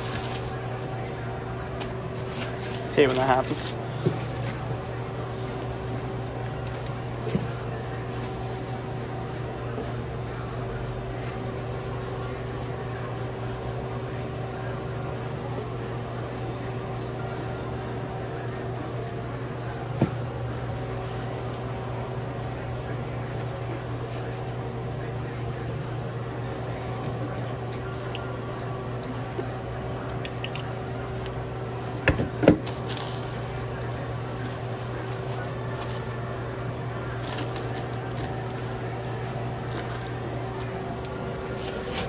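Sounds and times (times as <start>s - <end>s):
kitchen machinery hum: 0.0s - 42.0s.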